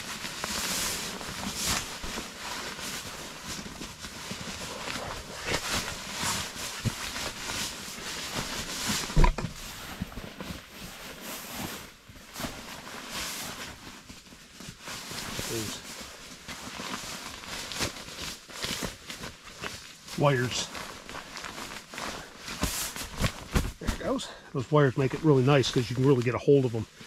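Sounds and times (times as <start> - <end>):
nylon sack and pad rustling: 0.0 - 27.0.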